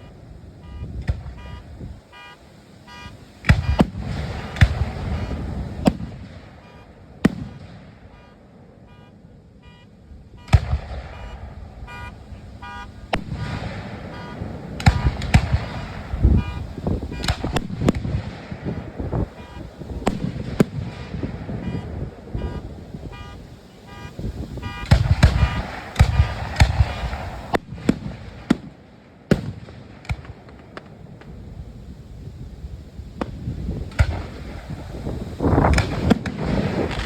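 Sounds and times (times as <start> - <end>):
fireworks booming: 0.0 - 37.0
fireworks crackle: 0.0 - 37.0.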